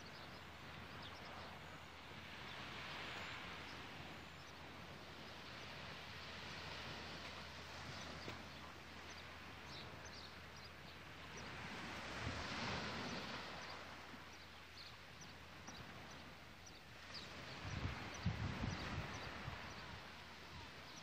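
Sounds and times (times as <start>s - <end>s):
soft hiss of calm sea: 0.0s - 21.0s.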